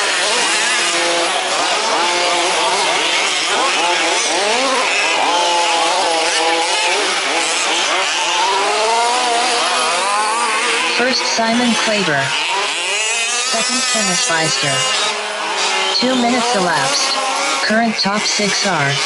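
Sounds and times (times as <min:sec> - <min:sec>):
small two-stroke engines racing: 0:00.0 - 0:19.0.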